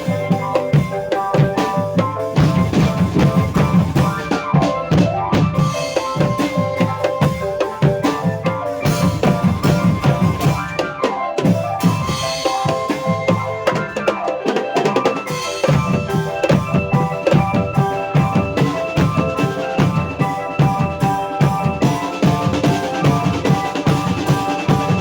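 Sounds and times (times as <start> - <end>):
bass drum and snare beat: 0.0 - 13.9, 15.3 - 25.0.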